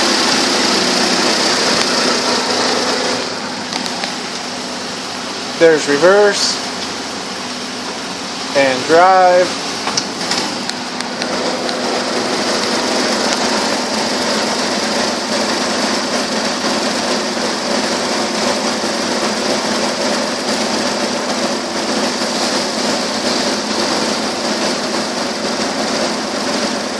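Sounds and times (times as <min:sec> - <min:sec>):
car engine idling: 0:00.0 - 0:26.5.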